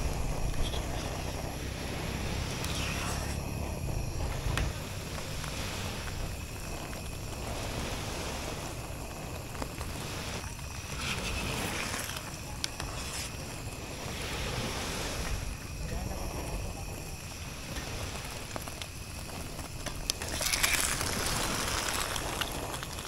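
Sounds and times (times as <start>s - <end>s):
sea waves washing onto beach: 0.0s - 23.0s
wind rumble on microphone: 0.0s - 23.0s.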